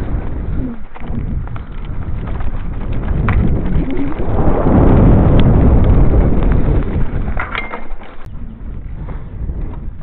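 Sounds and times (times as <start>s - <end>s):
tyres rolling over dirt trail: 0.0s - 10.0s
wind rumbling over microphone: 0.0s - 10.0s.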